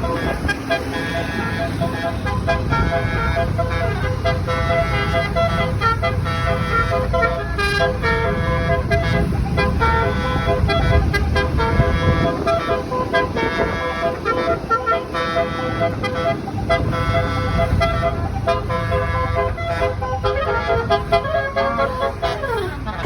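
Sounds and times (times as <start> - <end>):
bus horn trumpets playing melody: 0.0 - 23.0
low engine rumble: 0.0 - 23.0.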